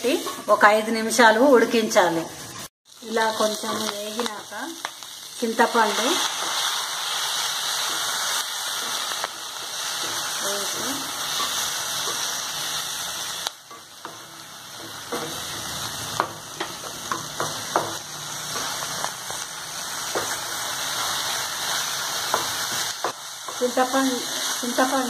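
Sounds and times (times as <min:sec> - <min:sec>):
leaves frying in oil: 0:00.0 - 0:25.0.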